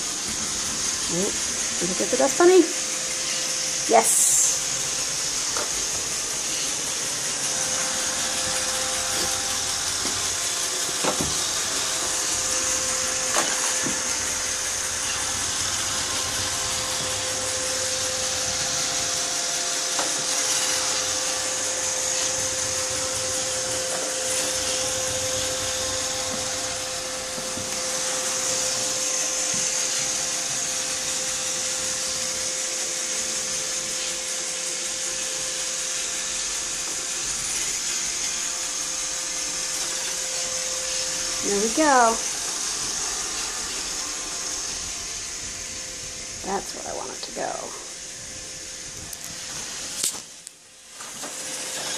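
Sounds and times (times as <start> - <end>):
robot vacuum whirring: 0.0 - 51.9.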